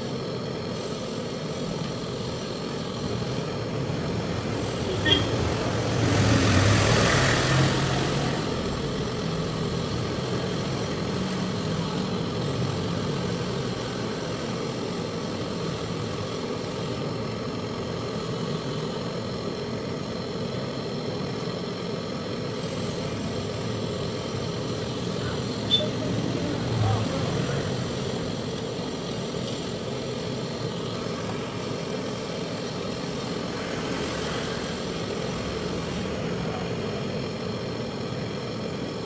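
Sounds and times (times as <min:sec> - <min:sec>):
torch burning with a hiss: 0:00.0 - 0:39.0.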